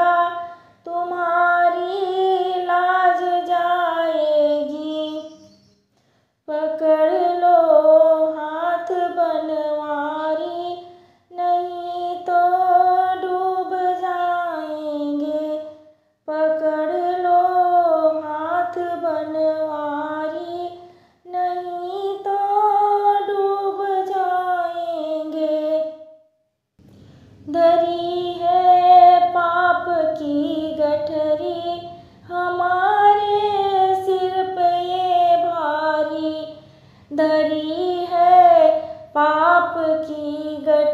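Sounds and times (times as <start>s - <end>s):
woman singing unaccompanied: 0.0s - 5.6s, 6.5s - 26.2s, 27.4s - 40.9s.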